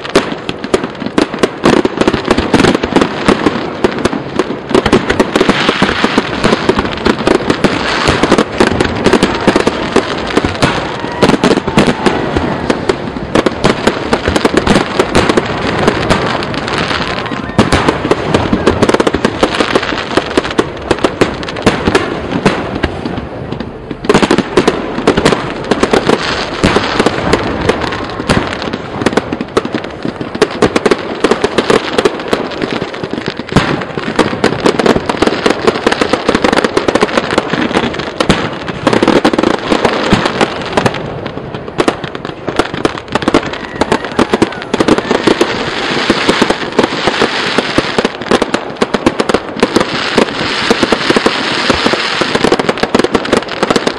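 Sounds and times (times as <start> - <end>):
fireworks bursts and crackle: 0.0 - 53.9.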